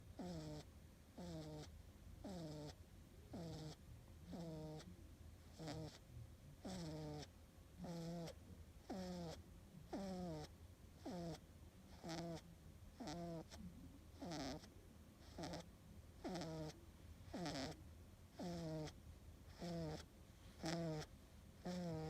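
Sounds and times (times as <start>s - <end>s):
cat snoring softly: 0.1s - 22.0s.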